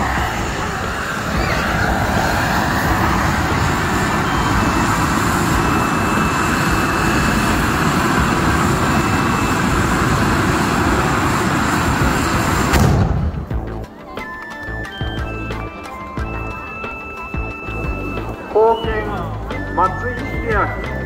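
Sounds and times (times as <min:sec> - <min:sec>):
firework fountain rushing: 0:00.0 - 0:21.0.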